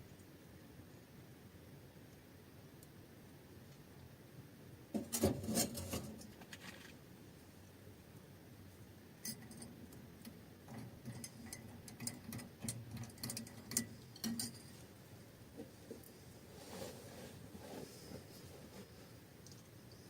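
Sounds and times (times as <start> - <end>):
faint low background noise: 0.0 - 20.0.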